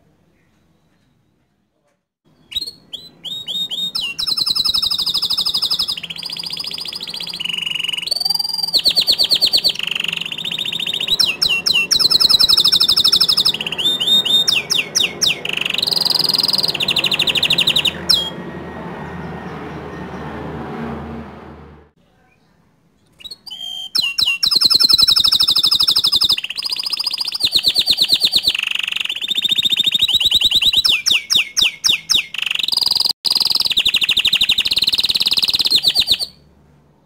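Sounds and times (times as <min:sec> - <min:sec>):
canary singing trills: 0:02.3 - 0:20.3, 0:23.1 - 0:36.5.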